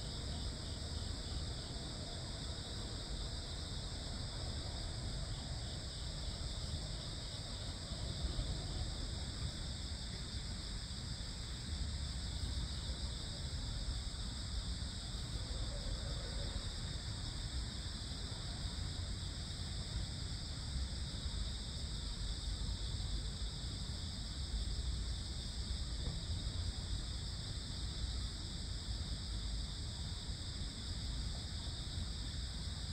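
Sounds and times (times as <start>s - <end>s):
crickets and insects trilling: 0.0s - 32.9s.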